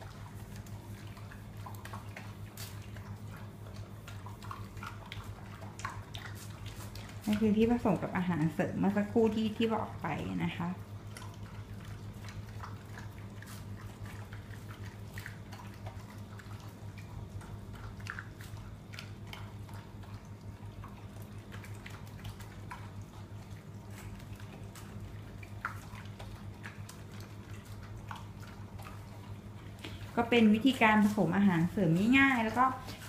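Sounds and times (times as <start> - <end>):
dogs chewing and lapping: 0.0 - 33.0.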